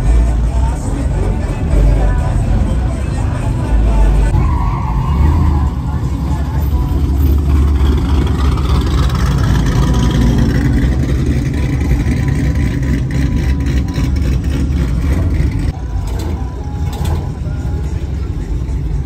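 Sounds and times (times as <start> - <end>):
car engine and exhaust rumble: 0.0 - 19.0.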